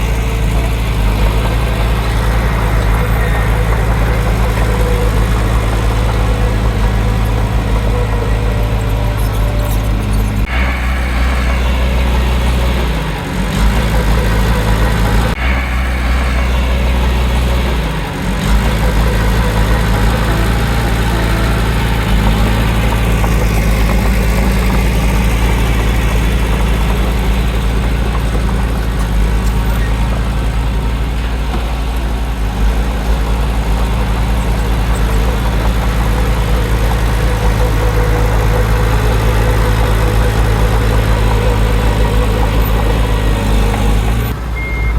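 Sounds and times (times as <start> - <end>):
heavy diesel engine under load: 0.0 - 44.9.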